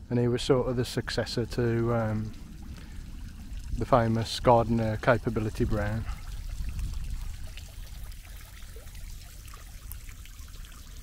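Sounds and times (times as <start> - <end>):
trickling water: 0.0 - 11.0.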